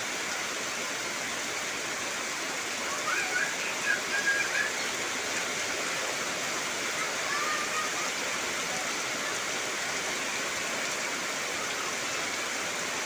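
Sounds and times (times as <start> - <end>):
heavy rain on foliage: 0.0 - 13.0.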